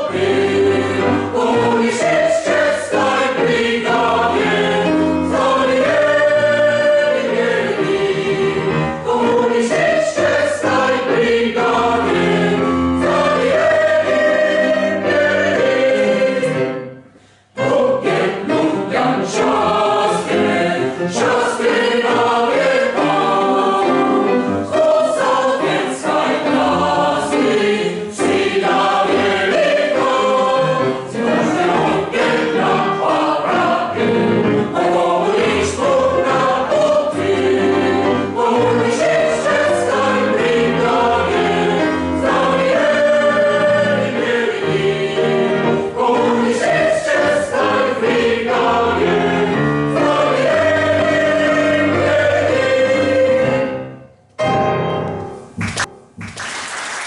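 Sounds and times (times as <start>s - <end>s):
mixed choir singing: 0.0s - 54.1s.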